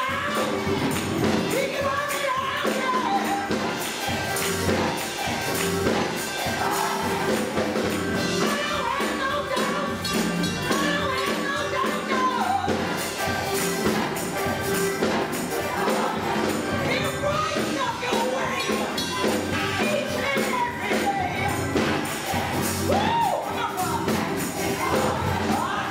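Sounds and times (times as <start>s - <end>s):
band accompaniment with percussion: 0.0s - 25.9s
gospel choir singing: 0.0s - 25.9s.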